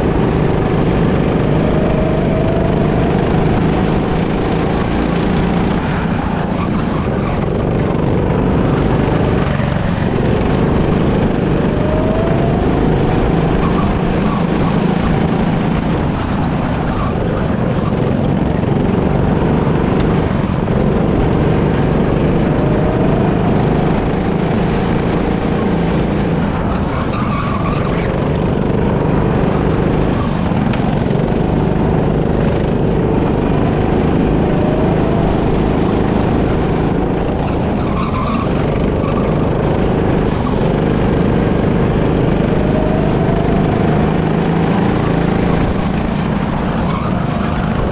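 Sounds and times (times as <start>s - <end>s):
go-kart engine: 0.0s - 47.9s.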